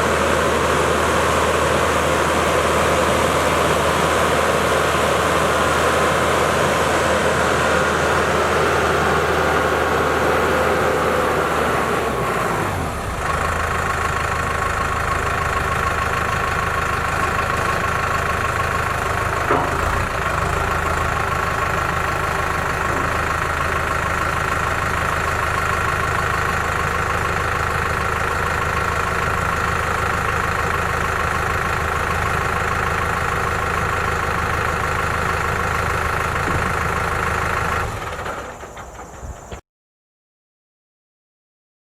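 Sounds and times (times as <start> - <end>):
tractor diesel engine running: 0.0 - 39.6.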